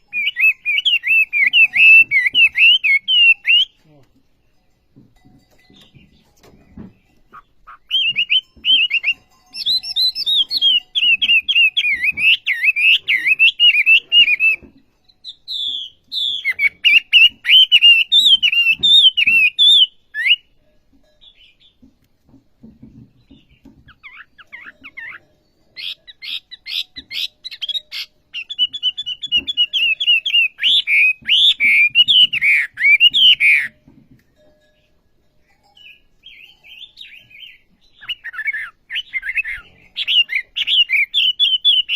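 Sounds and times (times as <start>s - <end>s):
songbird warbling chatter: 0.0s - 3.8s, 5.7s - 20.5s, 23.1s - 33.8s, 35.6s - 41.9s.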